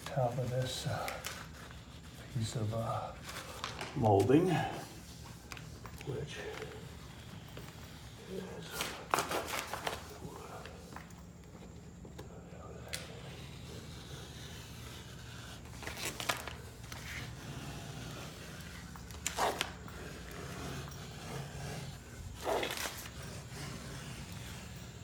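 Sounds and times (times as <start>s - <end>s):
vinyl peeling and scraping: 0.0s - 25.0s.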